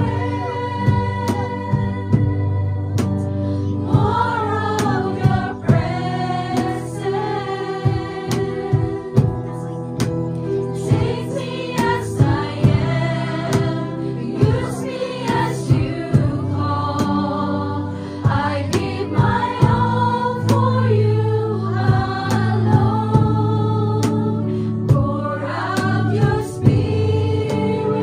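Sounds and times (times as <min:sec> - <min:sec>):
women singing in harmony: 0:00.0 - 0:09.8, 0:10.8 - 0:28.0.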